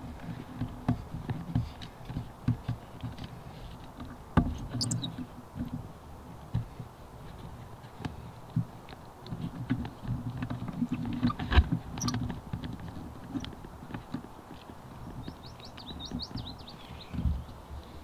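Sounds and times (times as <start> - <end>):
bike knocks and rattles: 0.0 - 17.5.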